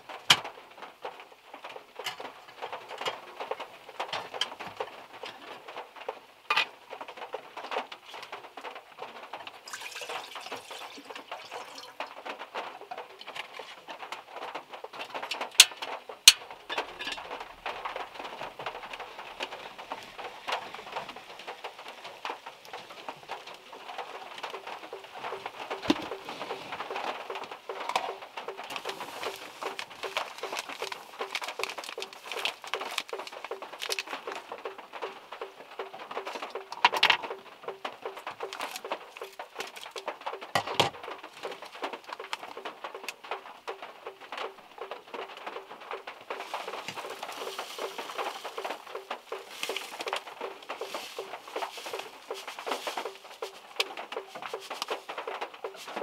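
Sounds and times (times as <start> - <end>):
rain pattering on car roof: 0.0 - 56.0.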